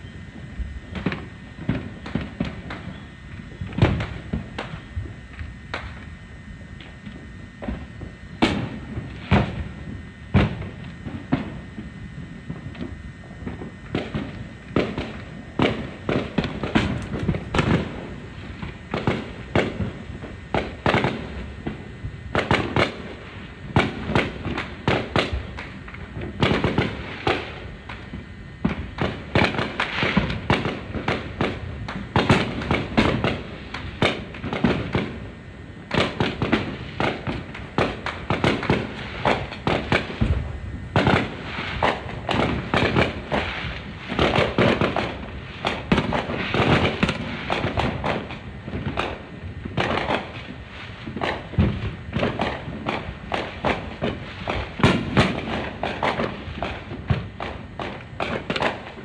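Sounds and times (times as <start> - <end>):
fireworks bangs and pops: 0.0 - 59.0.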